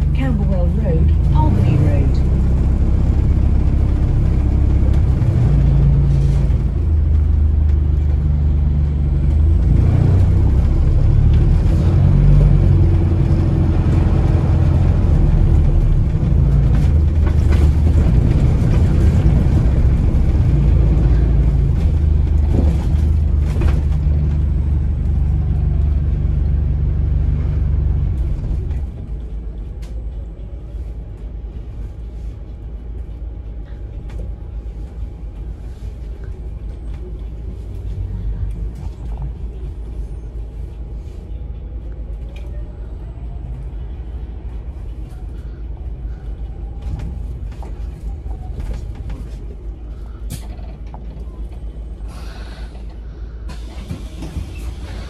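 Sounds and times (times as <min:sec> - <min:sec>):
bus drivetrain and road rumble: 0:00.0 - 0:55.0.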